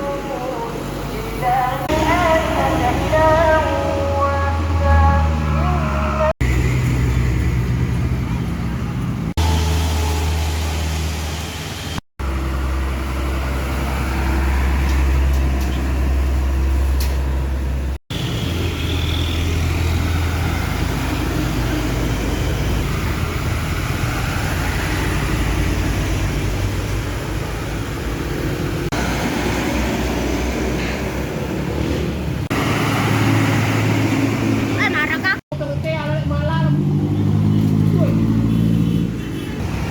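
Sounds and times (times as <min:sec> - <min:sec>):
truck diesel engines droning: 0:00.0 - 0:39.9.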